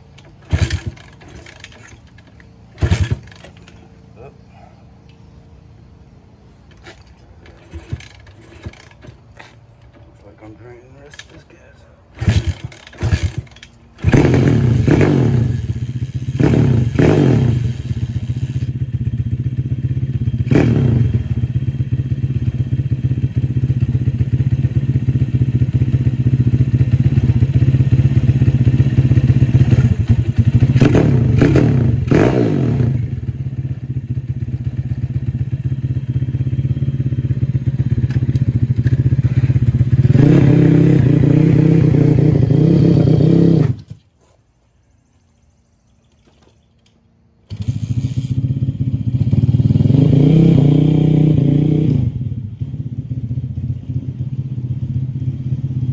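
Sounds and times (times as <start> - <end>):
motorbike engine idling and revving: 0.0 - 44.0, 45.0 - 55.9.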